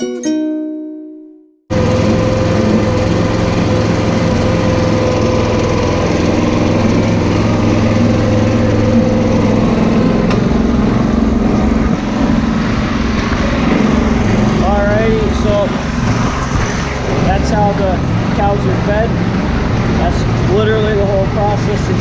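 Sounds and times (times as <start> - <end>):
small engine humming and whining: 1.7 - 22.0.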